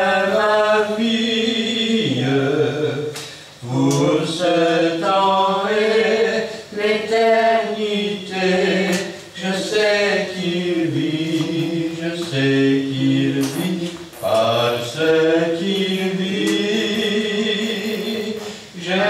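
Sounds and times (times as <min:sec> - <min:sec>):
slow hymn singing: 0:00.0 - 0:19.0.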